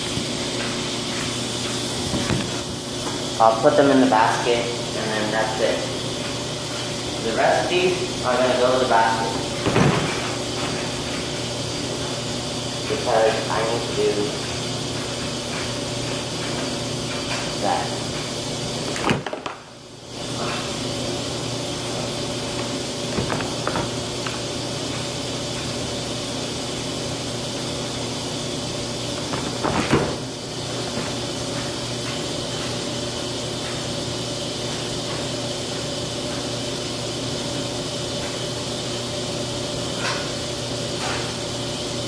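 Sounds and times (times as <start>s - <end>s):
laundry machines humming: 0.0s - 42.0s.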